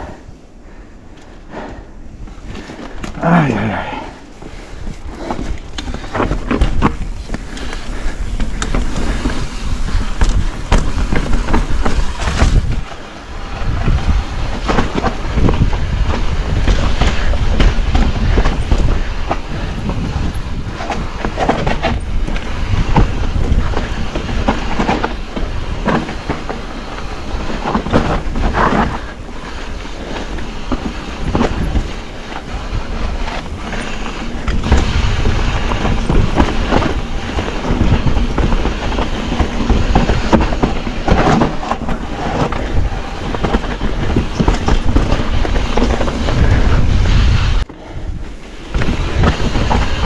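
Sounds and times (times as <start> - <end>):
mountain bike rattling downhill: 0.0 - 50.0.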